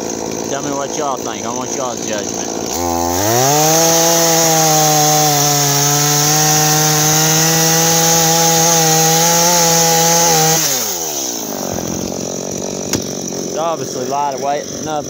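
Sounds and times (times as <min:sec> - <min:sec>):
chainsaw cutting through log: 0:00.0 - 0:15.0.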